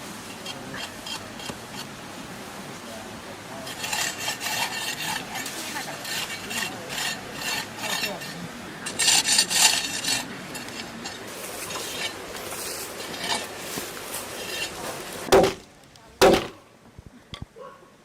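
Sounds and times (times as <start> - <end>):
scraping strokes: 0.1 - 2.0, 2.7 - 15.6.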